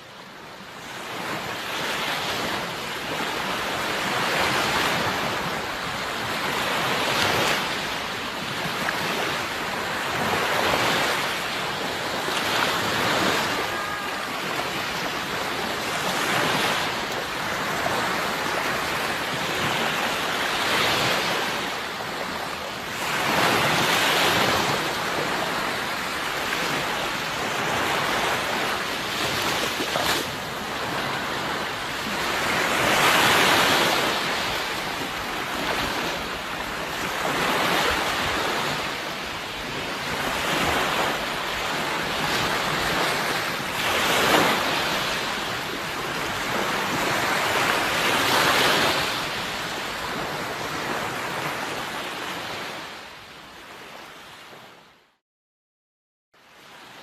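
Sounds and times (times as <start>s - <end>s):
sea waves breaking on shore: 0.0s - 55.0s, 56.4s - 57.0s.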